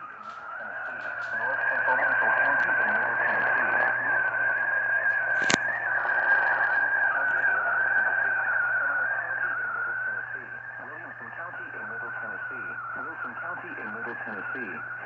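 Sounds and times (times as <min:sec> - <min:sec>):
radio static hiss: 0:00.0 - 0:15.0
sharp crackle: 0:00.0 - 0:15.0.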